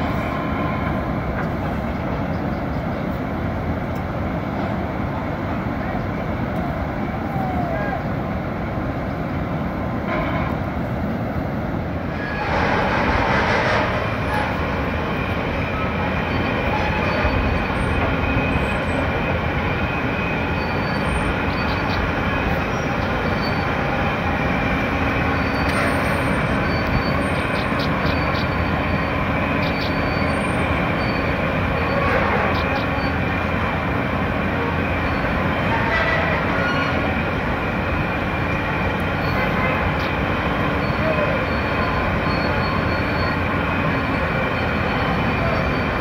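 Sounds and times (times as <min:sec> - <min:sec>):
hoist car rumbling on rails: 0:00.0 - 0:46.0.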